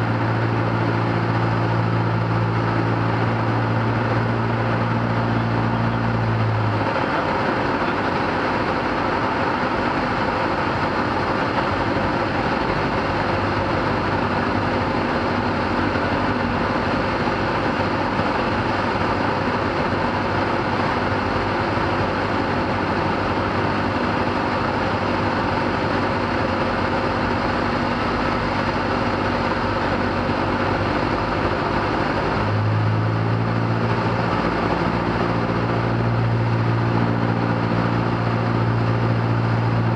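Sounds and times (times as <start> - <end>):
light airplane engine and propeller: 0.0 - 39.9.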